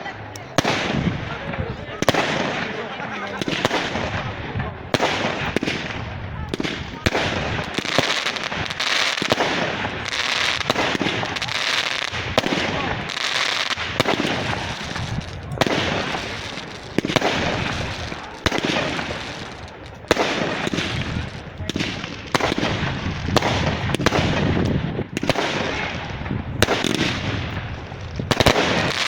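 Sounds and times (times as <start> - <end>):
fireworks bangs: 0.0 - 29.0
fireworks fizzing crackle: 0.0 - 29.0.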